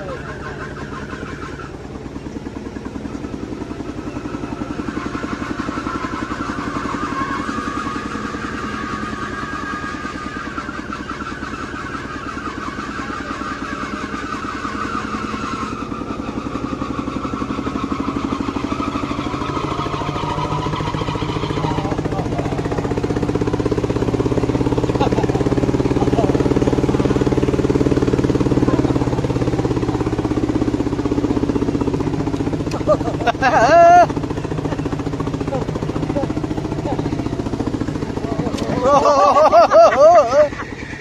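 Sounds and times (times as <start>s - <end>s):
diesel tractor engine running: 0.0s - 41.0s.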